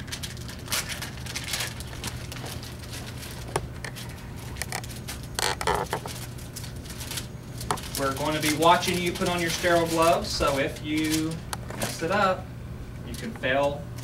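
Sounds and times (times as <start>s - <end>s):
paper wrapper rustling: 0.0s - 12.3s.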